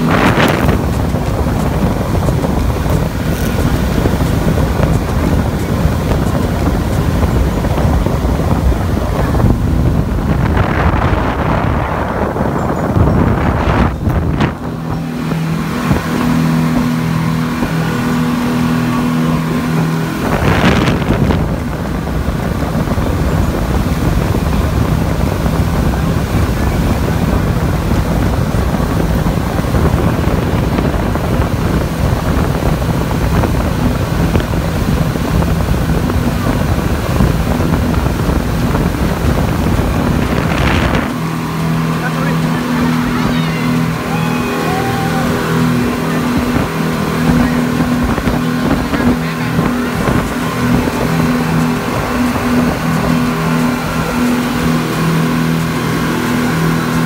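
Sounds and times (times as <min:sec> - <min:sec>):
rush of boat wake: 0:00.0 - 0:57.0
speedboat engine droning: 0:00.0 - 0:57.0
wind buffeting microphone: 0:00.0 - 0:57.0.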